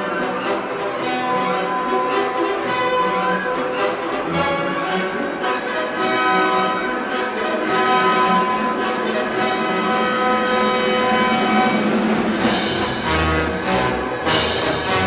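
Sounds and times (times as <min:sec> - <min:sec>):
orchestral brass and strings chords: 0:00.0 - 0:15.0.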